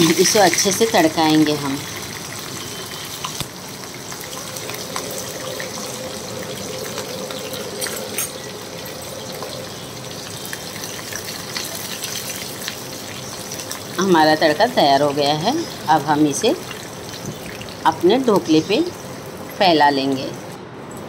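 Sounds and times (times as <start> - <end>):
seeds sizzling in hot oil: 0.0 - 20.6.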